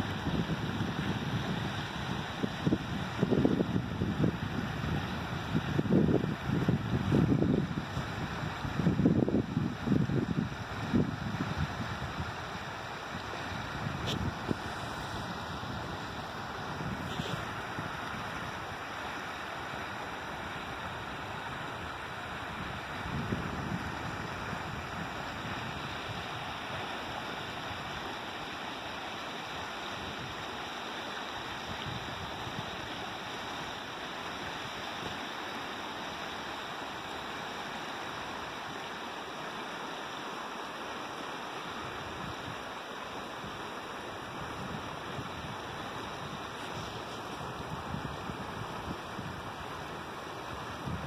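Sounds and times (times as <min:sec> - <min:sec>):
creek rushing over rocks: 0:00.0 - 0:51.0.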